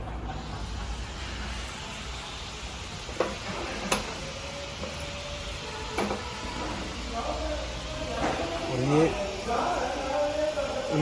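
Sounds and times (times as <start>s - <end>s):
steady hiss: 0.3s - 11.0s.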